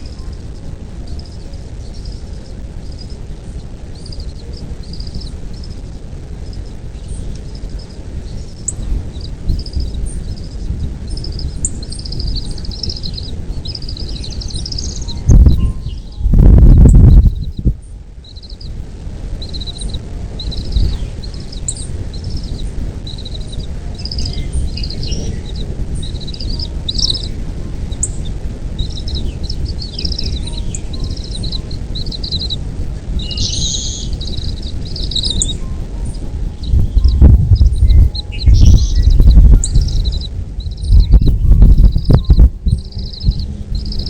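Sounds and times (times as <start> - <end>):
birds chirping: 0.0 - 44.0
low bumps: 0.0 - 44.0
steady low rumble: 0.0 - 44.0.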